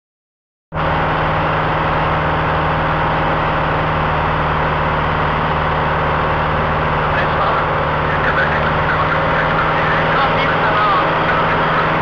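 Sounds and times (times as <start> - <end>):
airplane engine droning: 0.8 - 12.0
low hum: 0.8 - 12.0.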